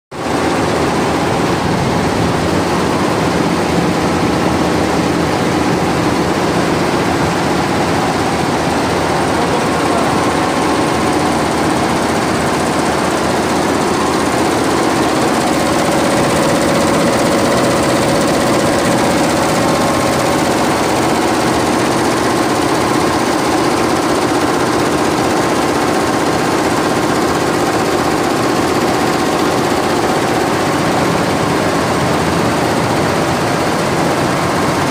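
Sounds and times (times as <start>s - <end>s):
embroidery machine rattling: 0.2s - 34.9s.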